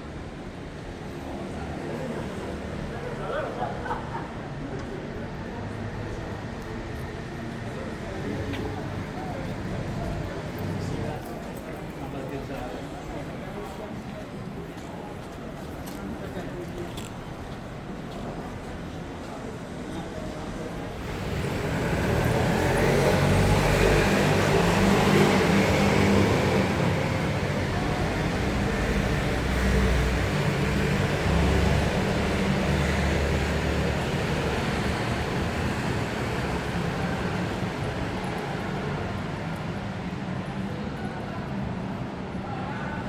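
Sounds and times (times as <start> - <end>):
general traffic noise: 0.0 - 43.0.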